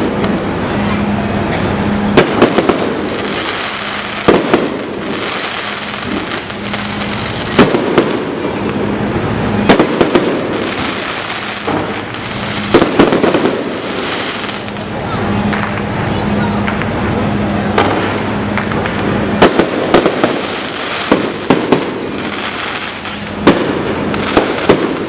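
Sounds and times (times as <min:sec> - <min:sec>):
fireworks bursting with loud bangs: 0:00.0 - 0:25.0
fireworks crackling: 0:00.0 - 0:25.0.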